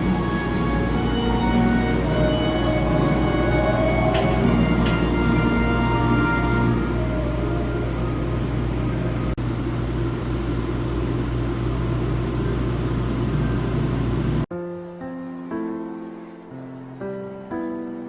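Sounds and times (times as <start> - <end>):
moving train rumble: 0.0 - 14.5.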